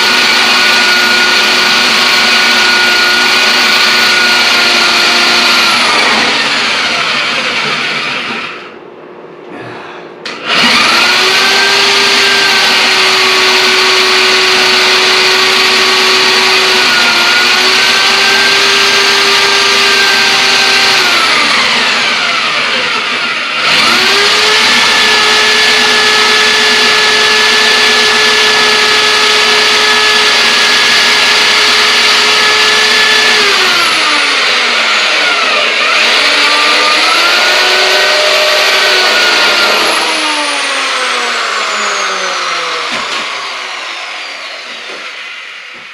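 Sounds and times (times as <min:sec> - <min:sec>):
electric drill boring wood: 0:00.0 - 0:08.7, 0:10.3 - 0:45.9.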